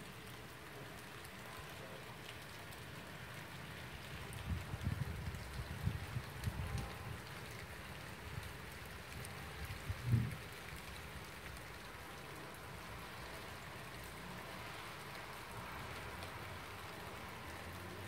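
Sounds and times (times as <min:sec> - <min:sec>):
hiss of rain falling: 0:00.0 - 0:18.0.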